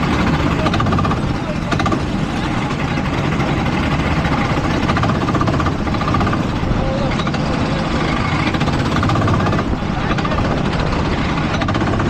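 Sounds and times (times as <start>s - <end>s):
go-kart engine buzzing: 0.0s - 12.0s.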